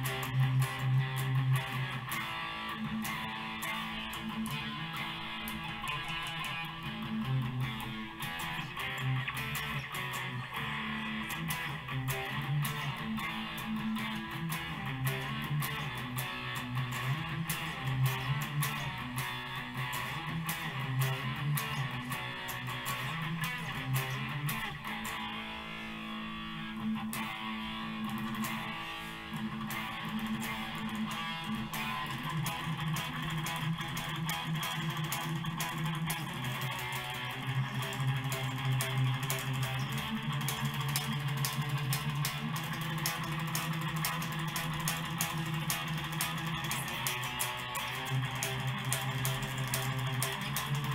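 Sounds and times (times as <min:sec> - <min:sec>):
electric guitar playing: 0:00.0 - 0:50.9.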